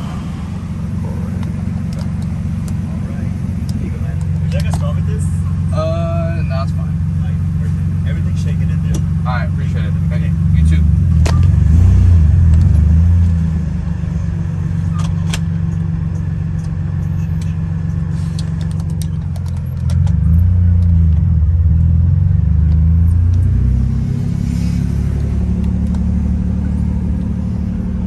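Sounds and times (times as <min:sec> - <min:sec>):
car engine running inside car: 0:00.0 - 0:28.0.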